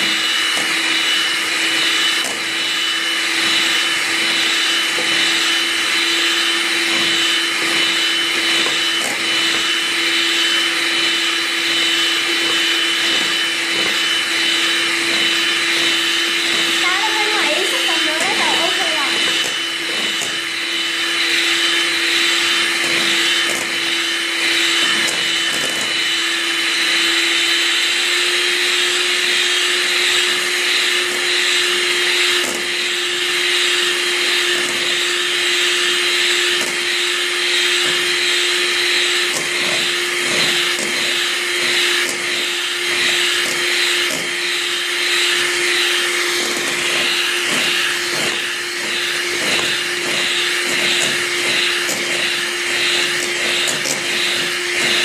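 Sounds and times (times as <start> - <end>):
electric mixer motor hum: 0.0 - 55.0.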